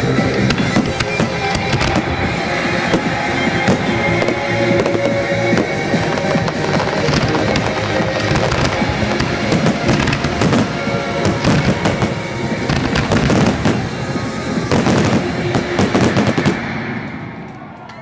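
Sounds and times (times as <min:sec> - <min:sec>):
fireworks bursting and crackling: 0:00.0 - 0:17.7.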